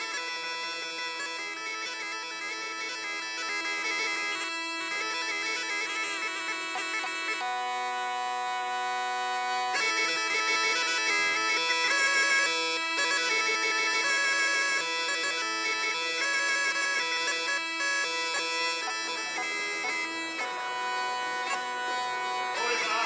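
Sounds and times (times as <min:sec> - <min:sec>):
bagpipe playing lively tune: 0:00.0 - 0:23.0.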